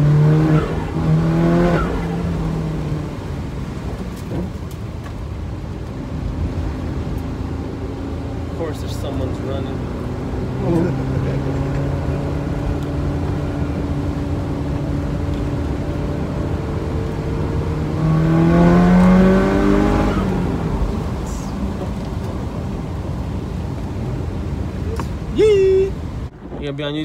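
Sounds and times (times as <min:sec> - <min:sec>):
turbocharged car engine: 0:00.0 - 0:05.1, 0:05.9 - 0:26.6.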